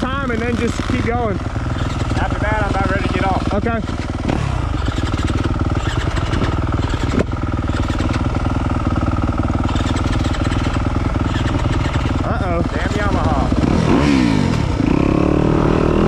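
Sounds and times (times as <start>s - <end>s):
dirt bike engine idling: 0.0s - 16.0s.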